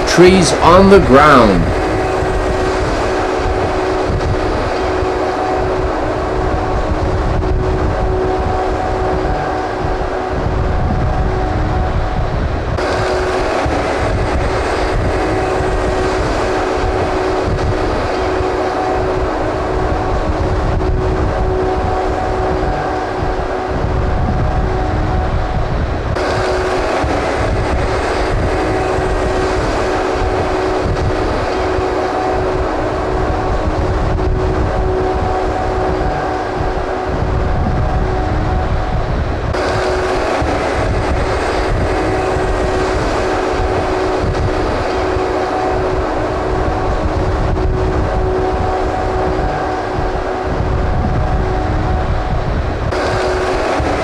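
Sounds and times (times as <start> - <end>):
machinery hum and rumble: 0.0 - 54.0.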